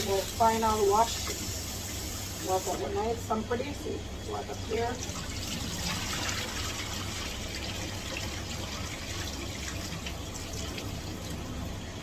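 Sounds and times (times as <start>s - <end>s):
water running and splashing: 0.0s - 3.1s, 4.5s - 12.0s.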